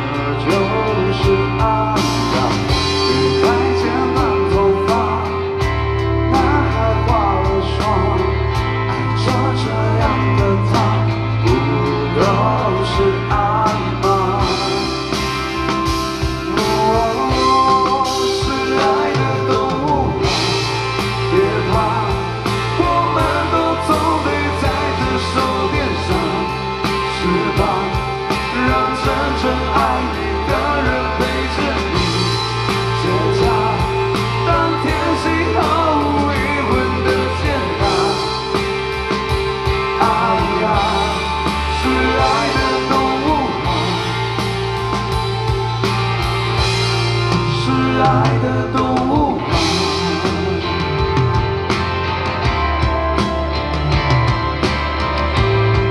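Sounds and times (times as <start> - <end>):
lead singer singing: 0.0 - 54.4
bass guitar: 0.0 - 55.9
drums: 0.0 - 55.9
electric guitars: 0.0 - 55.9.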